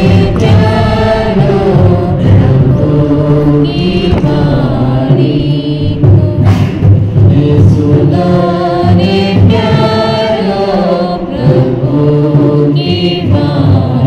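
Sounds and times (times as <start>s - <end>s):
song with singing voices: 0.0s - 14.0s.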